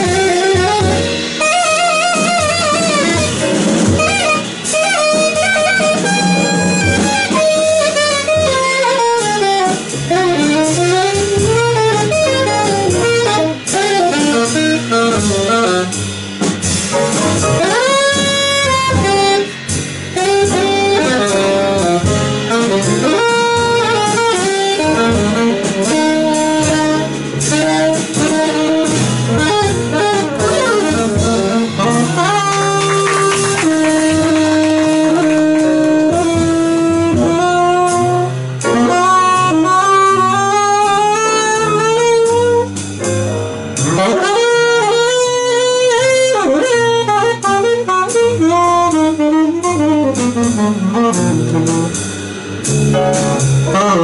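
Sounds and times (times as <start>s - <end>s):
double bass: 0.0s - 54.0s
drums: 0.0s - 54.0s
saxophone solo: 0.0s - 54.0s.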